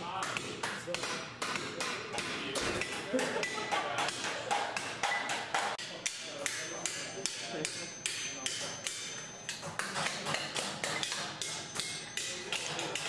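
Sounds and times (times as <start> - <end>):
hammers striking metal on anvils: 0.0 - 13.0.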